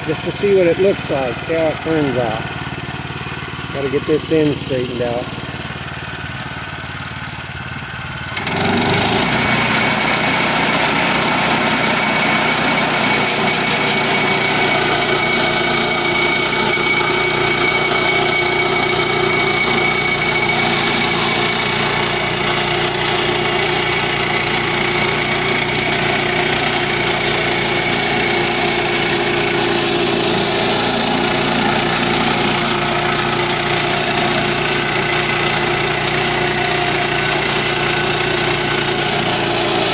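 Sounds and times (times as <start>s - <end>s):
band saw blade cutting log: 0.0s - 6.5s, 8.2s - 39.9s
small gas engine throttling up: 0.0s - 39.9s.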